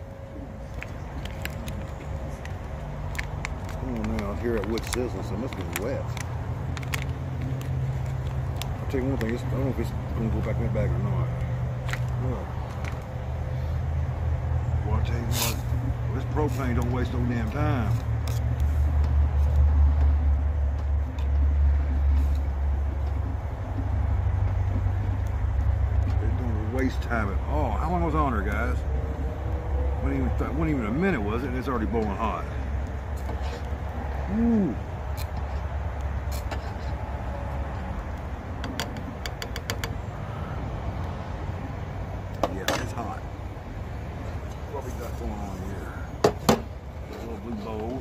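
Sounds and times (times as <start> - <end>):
propane burner rumbling and hissing: 0.0 - 48.0.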